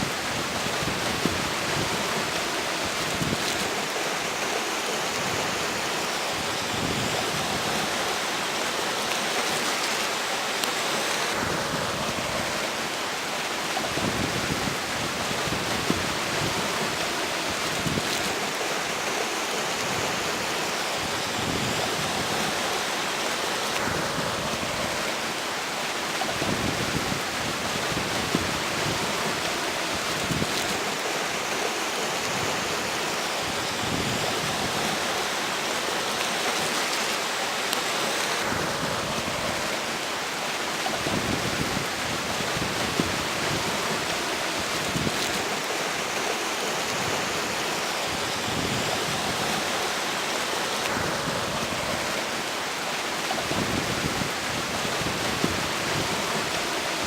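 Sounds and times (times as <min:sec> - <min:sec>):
wind rumbling on microphone: 0:00.0 - 0:04.0, 0:05.1 - 0:08.2, 0:11.3 - 0:18.7, 0:19.8 - 0:22.7, 0:23.7 - 0:35.4, 0:38.3 - 0:57.0
river flowing: 0:00.0 - 0:57.0.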